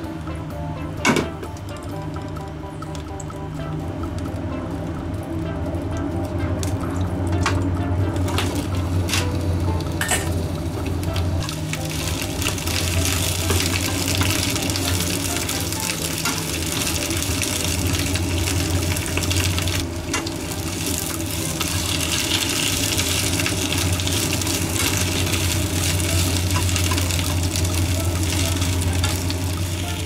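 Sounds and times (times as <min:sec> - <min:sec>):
low hum: 0:00.0 - 0:30.0
peppers sizzling in oil: 0:00.0 - 0:30.0.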